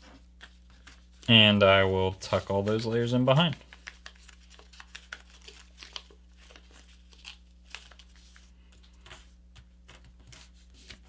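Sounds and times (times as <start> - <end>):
paper rustling and crinkling: 0.0 - 11.0
soft paper crackles: 0.0 - 11.0.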